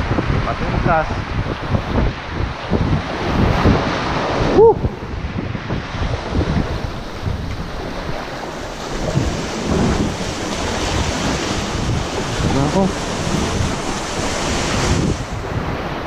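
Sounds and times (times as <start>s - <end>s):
surf washing over rocks: 0.0s - 16.0s
wind buffeting microphone: 0.0s - 16.0s.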